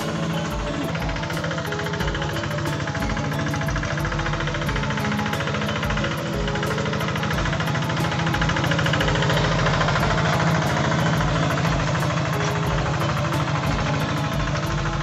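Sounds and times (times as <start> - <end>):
diesel tractor engine knocking: 0.0 - 15.0.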